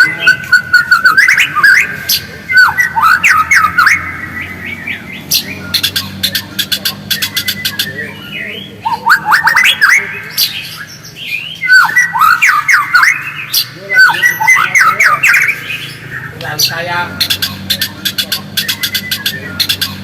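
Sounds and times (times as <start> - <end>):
bird chirping and ticking: 0.0 - 20.0.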